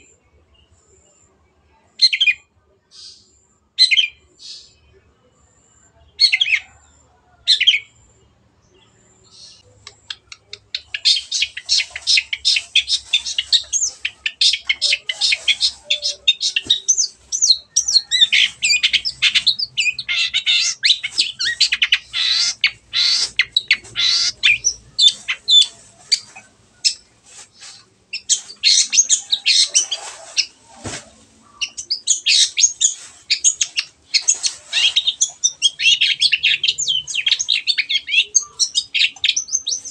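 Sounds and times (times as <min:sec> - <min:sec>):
bird chattering song: 0:06.1 - 0:08.0, 0:08.7 - 0:30.6, 0:31.4 - 0:39.9.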